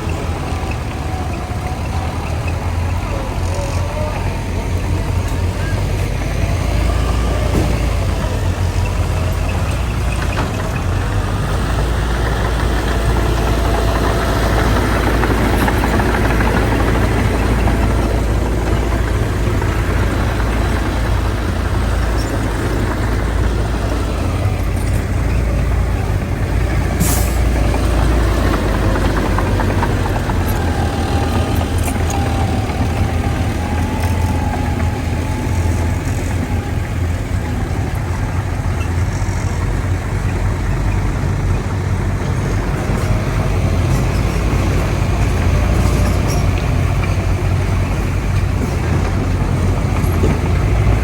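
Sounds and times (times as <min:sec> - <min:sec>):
heavy diesel machinery running: 0:00.0 - 0:51.0.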